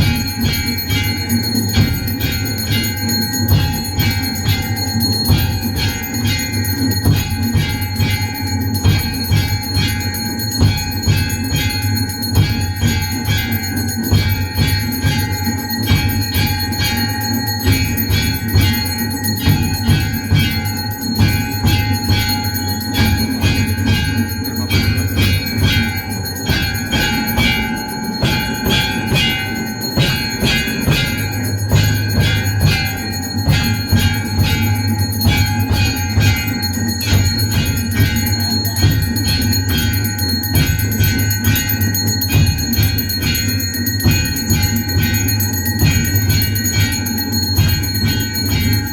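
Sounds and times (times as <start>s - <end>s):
temple bells clanging: 0.0s - 48.9s.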